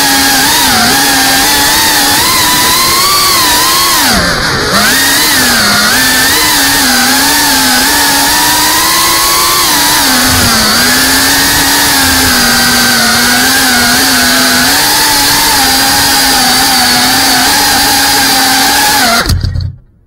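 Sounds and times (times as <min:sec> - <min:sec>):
drone motors whining: 0:00.0 - 0:19.8.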